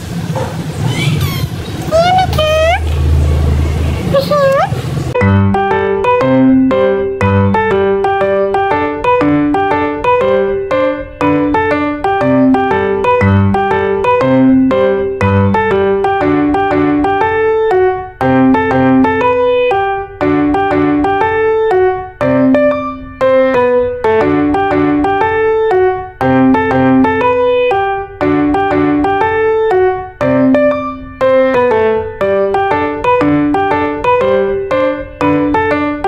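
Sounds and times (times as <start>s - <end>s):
piano melody: 0.0s - 36.0s.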